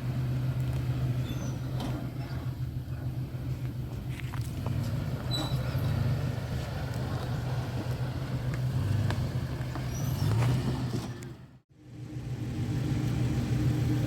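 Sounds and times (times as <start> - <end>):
vehicle engine running at low revs: 0.0 - 14.0.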